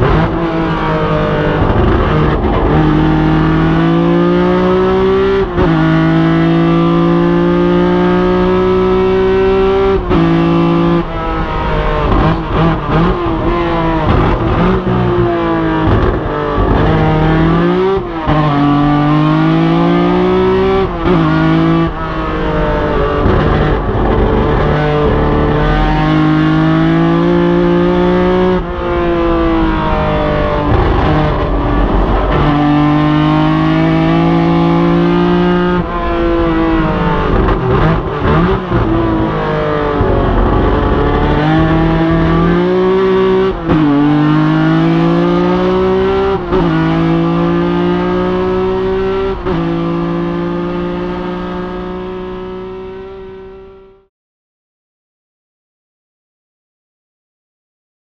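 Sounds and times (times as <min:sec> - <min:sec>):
race car engine revving: 0:00.0 - 0:54.1.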